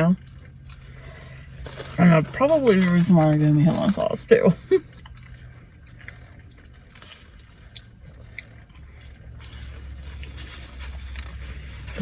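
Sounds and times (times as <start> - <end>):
eating and food handling: 0.0 - 12.0
steady low hum: 0.0 - 12.0.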